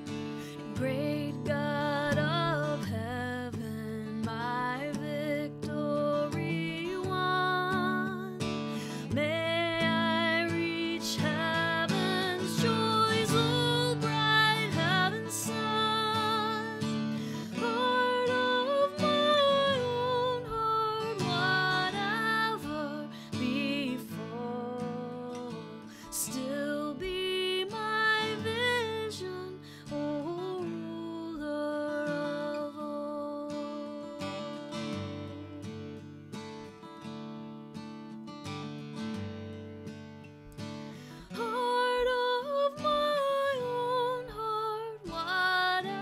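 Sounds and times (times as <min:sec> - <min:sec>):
acoustic guitar strumming: 0:00.0 - 0:30.8, 0:32.1 - 0:46.0
woman singing a hymn: 0:00.6 - 0:35.7, 0:41.3 - 0:46.0.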